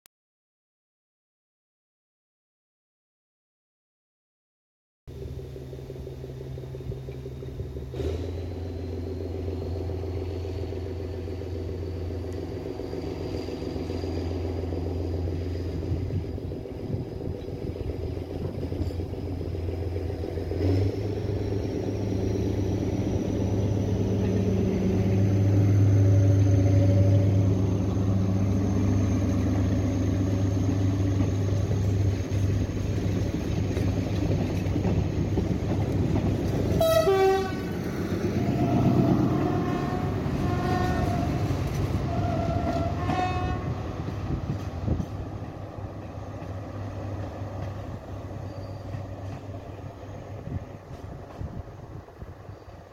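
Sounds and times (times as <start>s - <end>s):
diesel railcar engine drone: 5.1s - 52.9s
train coaches rumbling by: 5.1s - 52.9s.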